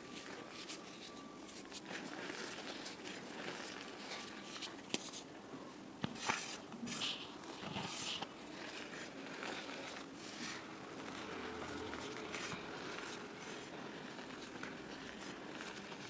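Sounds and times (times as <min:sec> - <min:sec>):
chalk powder crunching and rustling: 0:00.0 - 0:05.3, 0:06.2 - 0:16.0.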